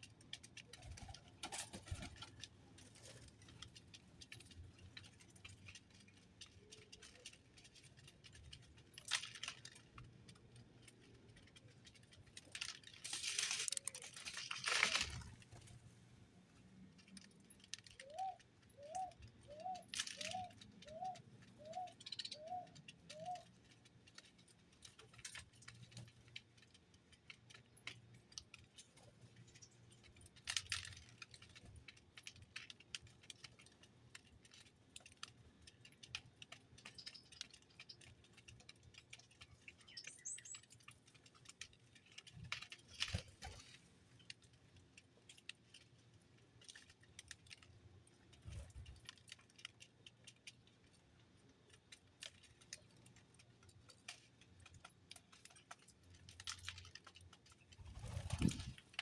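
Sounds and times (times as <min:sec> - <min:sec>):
birds pecking seed: 0:00.0 - 0:59.0.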